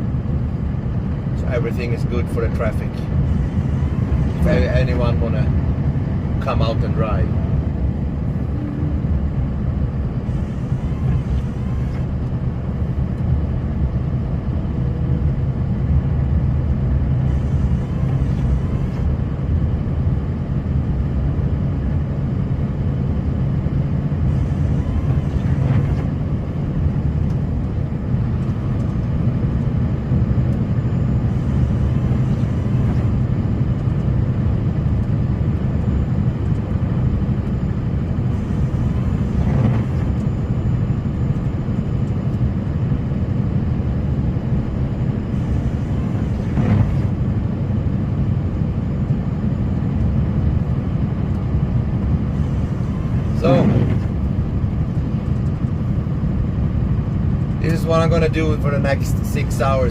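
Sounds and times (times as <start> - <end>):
snowplow engine rumbling: 0.0 - 59.9.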